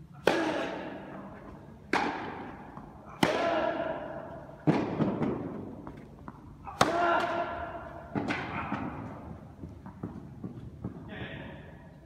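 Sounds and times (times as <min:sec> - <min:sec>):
racket hitting tennis ball: 0:00.1 - 0:11.1
tennis ball bouncing: 0:00.2 - 0:11.1.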